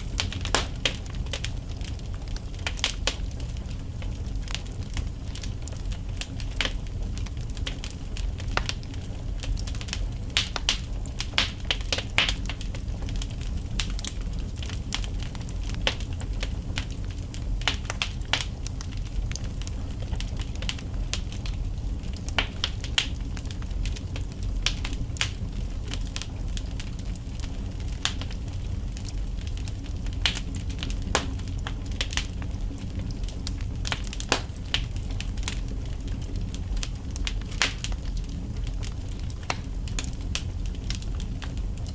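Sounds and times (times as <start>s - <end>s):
logs crackling and popping: 0.0s - 41.9s.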